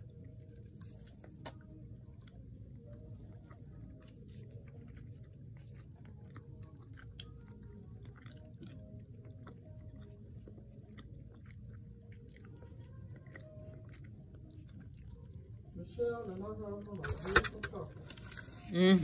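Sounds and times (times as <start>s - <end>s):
chewing with denture clicks: 0.0s - 15.7s
low room hum: 0.0s - 19.0s.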